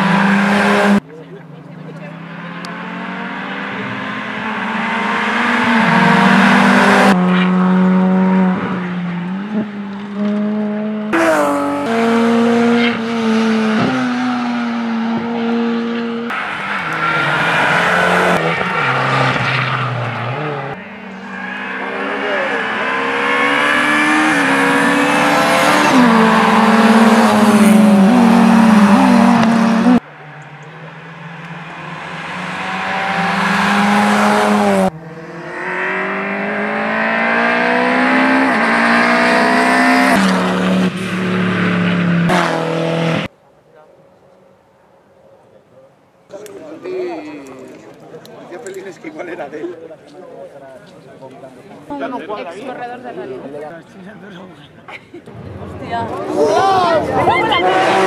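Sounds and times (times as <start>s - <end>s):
rally car engines at full throttle: 0.0s - 43.4s, 52.7s - 58.0s.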